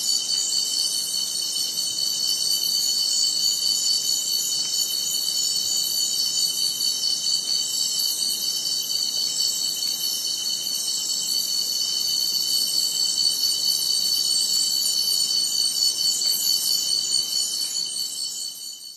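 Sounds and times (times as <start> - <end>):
insects chorus: 0.0 - 18.9.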